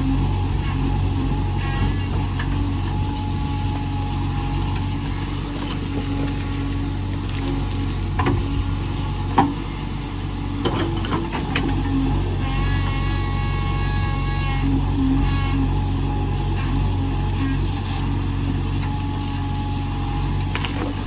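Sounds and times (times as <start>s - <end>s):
backhoe diesel engine running: 0.0s - 21.0s.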